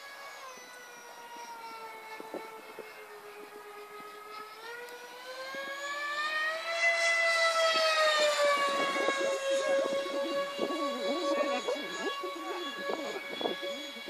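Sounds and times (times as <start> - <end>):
model jet motor whine: 0.0 - 14.0.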